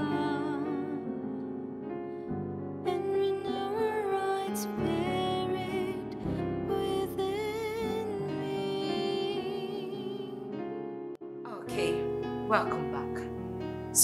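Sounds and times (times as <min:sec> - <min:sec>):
slow gentle keyboard music: 0:00.0 - 0:14.0.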